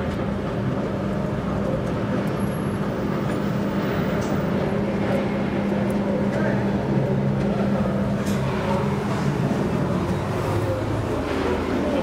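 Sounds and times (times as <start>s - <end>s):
elevator mechanical hum: 0.0s - 12.0s.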